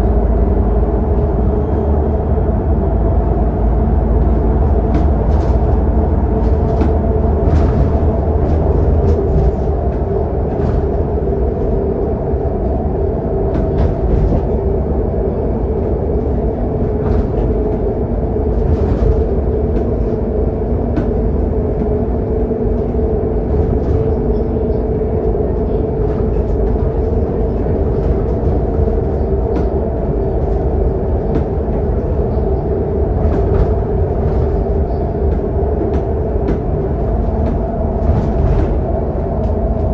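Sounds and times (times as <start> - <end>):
bus diesel engine droning: 0.0 - 39.9
road and tyre rumble: 0.0 - 39.9.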